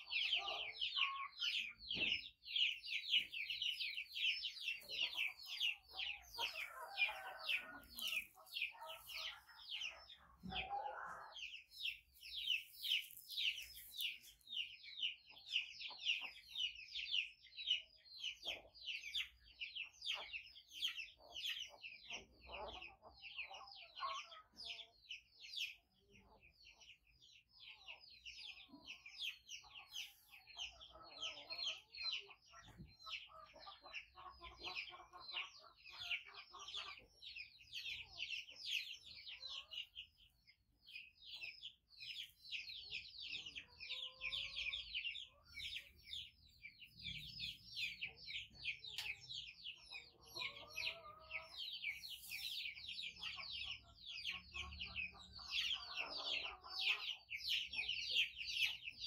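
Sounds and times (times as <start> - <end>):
young animals peeping: 0.0 - 59.0.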